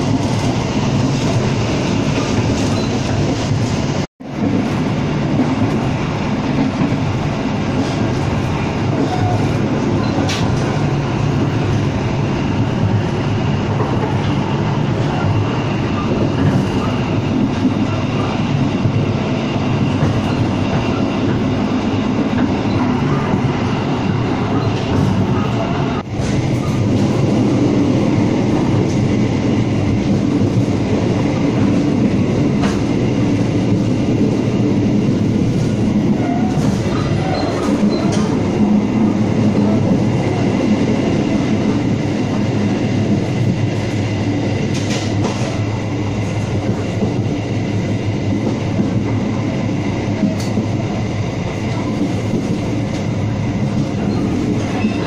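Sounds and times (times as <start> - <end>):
train rumble from inside carriage: 0.0 - 55.0.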